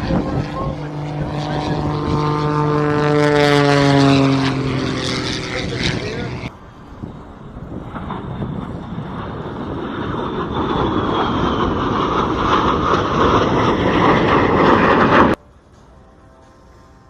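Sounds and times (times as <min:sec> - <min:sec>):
aircraft flying past: 0:00.0 - 0:17.0
high falling whine: 0:00.0 - 0:17.0.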